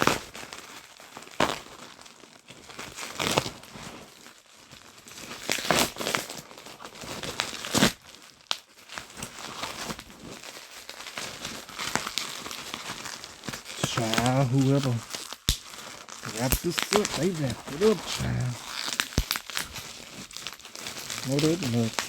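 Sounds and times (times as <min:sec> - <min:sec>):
plastic wrapping crinkling and tearing: 0:00.0 - 0:22.0.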